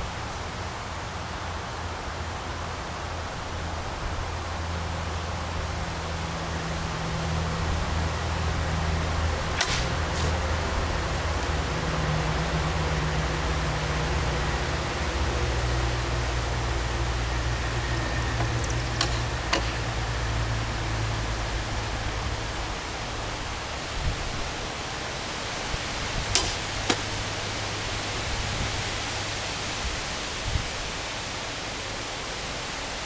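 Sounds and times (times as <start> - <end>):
low hum: 0.0 - 31.0
outdoor background hiss: 0.0 - 33.0.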